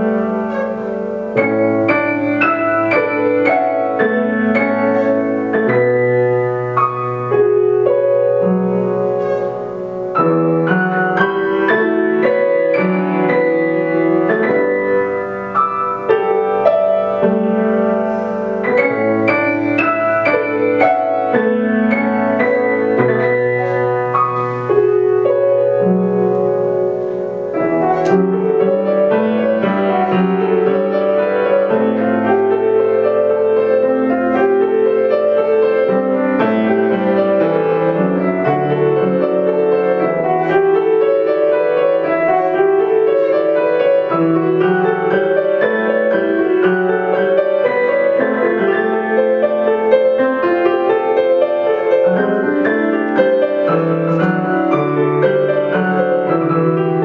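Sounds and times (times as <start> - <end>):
two pianos playing classical piece: 0.0 - 57.0.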